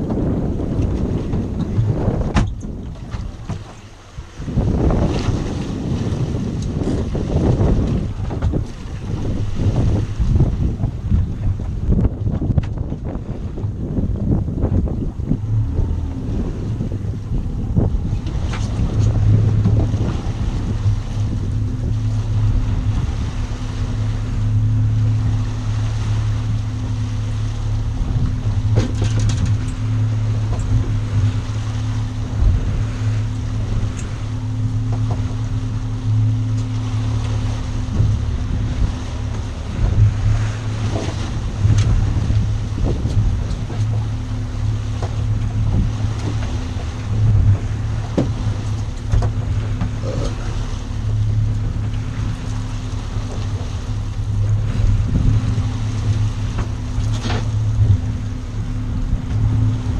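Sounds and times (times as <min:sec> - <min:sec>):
motorboat engine humming: 0:00.0 - 0:59.9
water rushing: 0:00.0 - 0:59.9
wind: 0:00.0 - 0:59.9.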